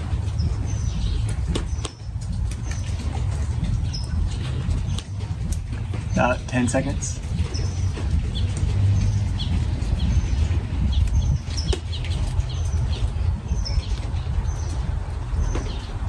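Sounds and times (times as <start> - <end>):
constant low rumble: 0.0 - 16.0
small birds chirping: 0.0 - 16.0.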